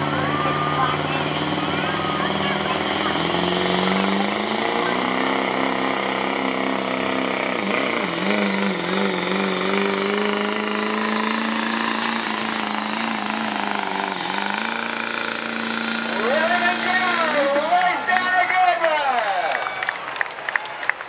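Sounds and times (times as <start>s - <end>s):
diesel engine at high revs: 0.0s - 19.2s.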